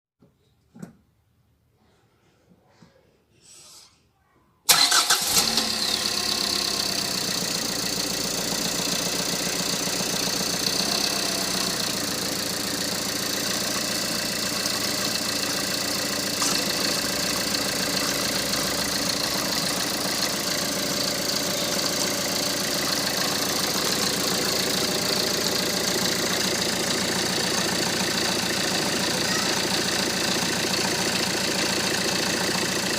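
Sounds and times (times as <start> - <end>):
diesel engine starting and idling: 4.7 - 32.9.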